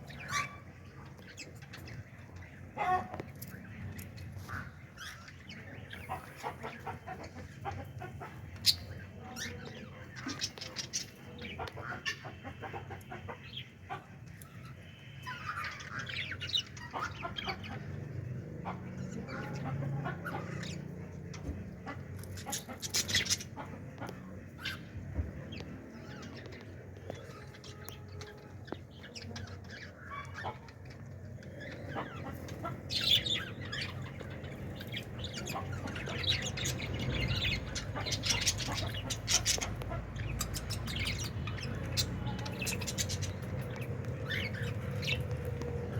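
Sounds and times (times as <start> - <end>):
budgerigars chirping and squawking: 0.0 - 45.9.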